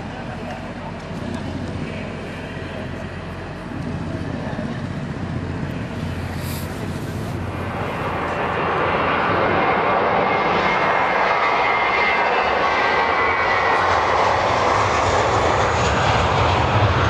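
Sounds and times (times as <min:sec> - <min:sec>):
jet engine whine over loudspeakers: 0:00.0 - 0:17.0.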